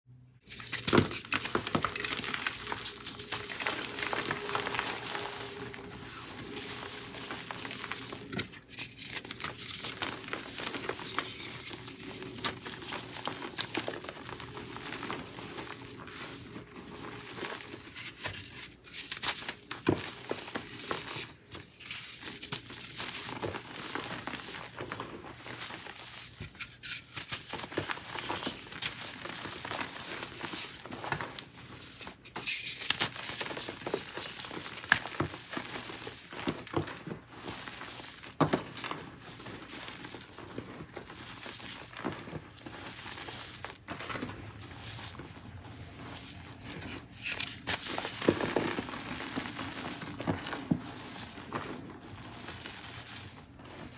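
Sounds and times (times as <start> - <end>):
chalk crunching and crackling: 0.4 - 53.9.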